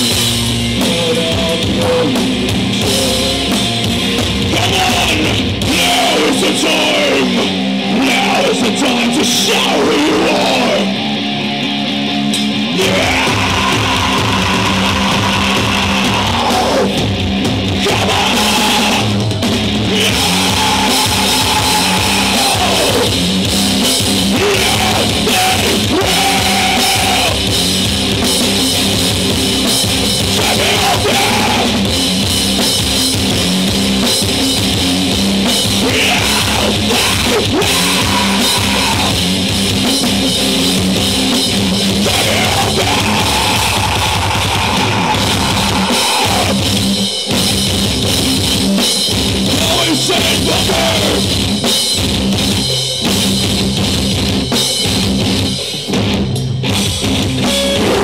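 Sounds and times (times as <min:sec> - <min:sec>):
bass guitar: 0:00.0 - 0:58.0
distorted electric guitar: 0:00.0 - 0:58.0
pounding drum kit: 0:00.0 - 0:58.0.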